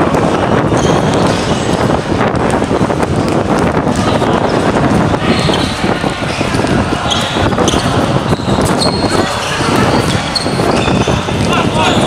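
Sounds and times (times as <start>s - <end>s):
basketball bouncing on court: 0.0s - 12.0s
loud background noise: 0.0s - 12.0s
sneaker squeaks: 0.1s - 12.0s.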